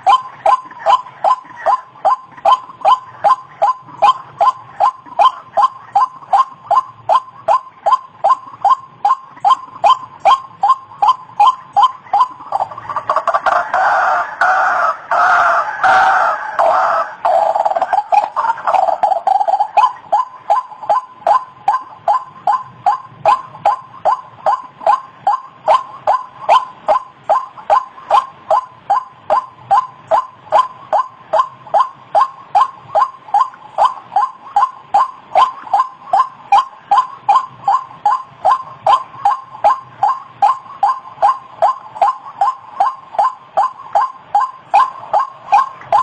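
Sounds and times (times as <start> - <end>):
waterhen calling: 0.0 - 46.0.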